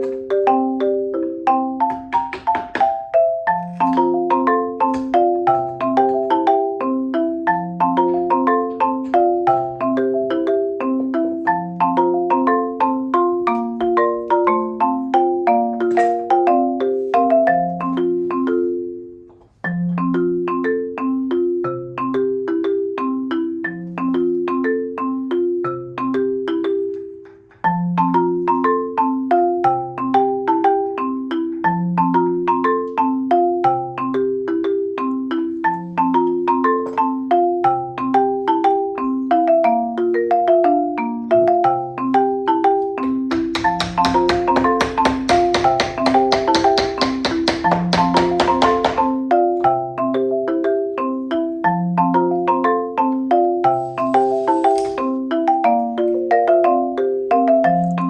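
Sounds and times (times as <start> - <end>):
light mallet percussion tune: 0.0 - 58.0.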